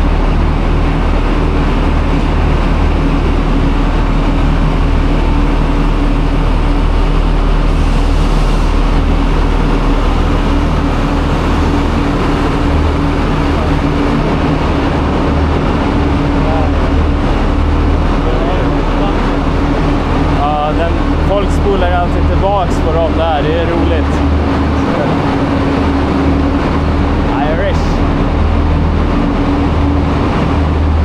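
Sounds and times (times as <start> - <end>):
diesel train engine idling: 0.0 - 31.0.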